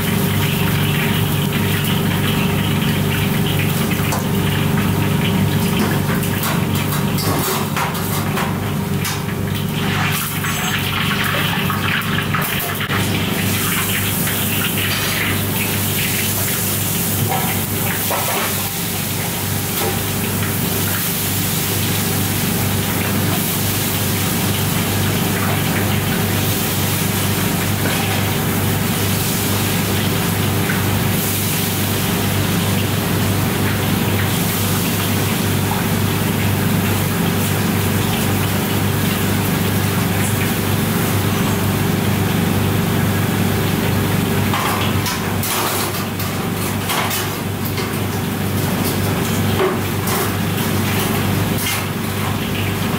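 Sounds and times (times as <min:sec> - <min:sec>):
oil sizzling and popping: 0:00.0 - 0:52.9.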